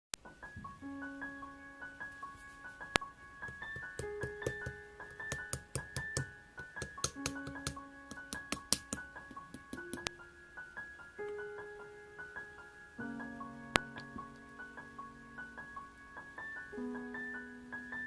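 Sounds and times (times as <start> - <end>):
soft electric piano melody: 0.2 - 18.0.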